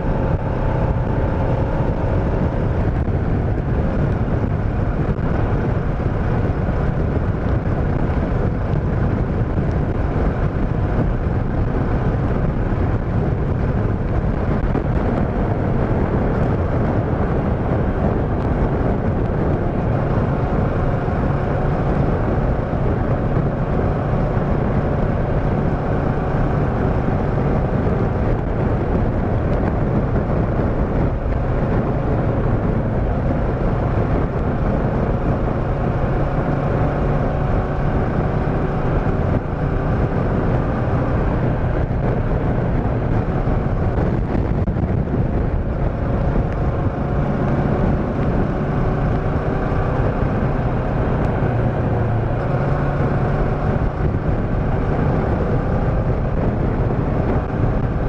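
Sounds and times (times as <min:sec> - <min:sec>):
motorcycle engine hum: 0:00.0 - 0:58.0
wind rushing over microphone: 0:00.0 - 0:58.0.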